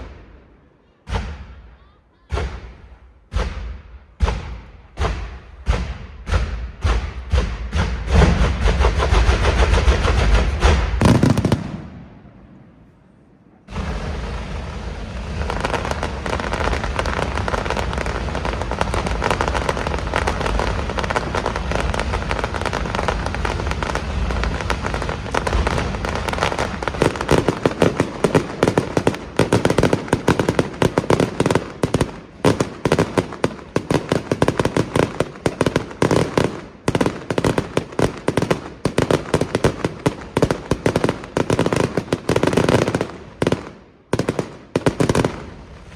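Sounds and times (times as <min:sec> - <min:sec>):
firecracker bangs and crackling: 0:00.0 - 0:13.0, 0:13.6 - 0:45.9
loud firework reports: 0:00.0 - 0:45.9.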